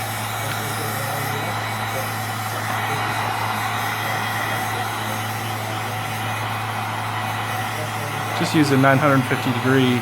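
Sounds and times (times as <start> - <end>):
heat gun blowing air: 0.0 - 10.0.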